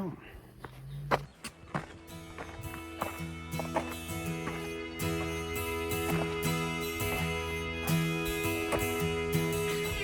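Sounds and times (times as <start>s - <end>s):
plucked guitar music: 1.4s - 10.0s.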